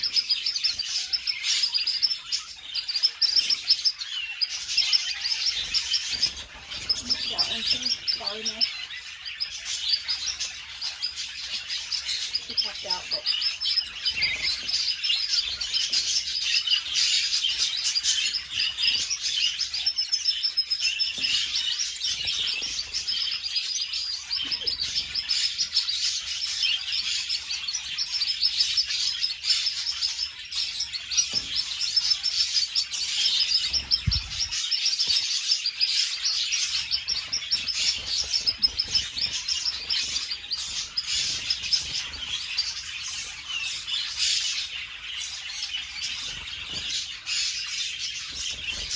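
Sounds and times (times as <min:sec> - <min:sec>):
canaries chirping and trilling: 0:00.0 - 0:48.9.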